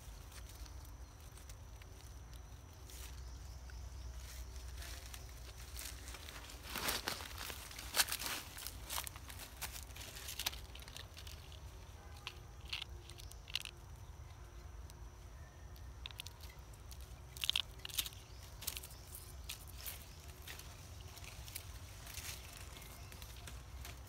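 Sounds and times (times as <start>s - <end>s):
dry leaves and twigs crackling: 0.0s - 24.0s.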